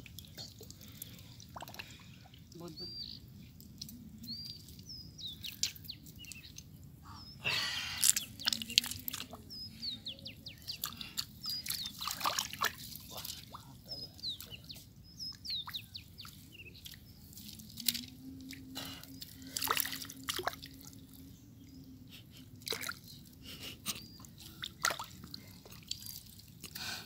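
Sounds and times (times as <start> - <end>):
hands squelching in mud and water: 0.0 - 2.6, 3.5 - 21.3, 22.1 - 27.0
small birds chirping: 0.1 - 18.2, 18.8 - 27.0.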